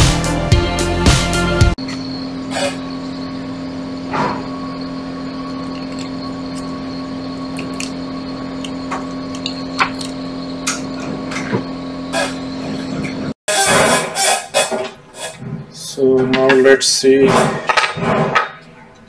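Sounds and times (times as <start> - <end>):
steady hum: 1.7 - 18.4.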